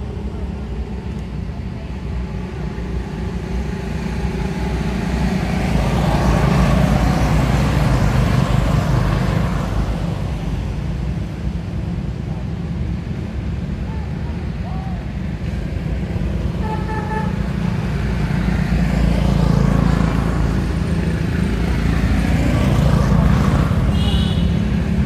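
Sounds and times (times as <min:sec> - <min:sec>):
tyre noise on road: 0:00.0 - 0:25.0.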